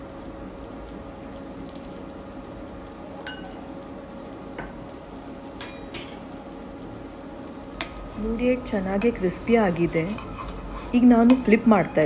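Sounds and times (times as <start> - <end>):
batter sizzling in oil: 0.0 - 12.0.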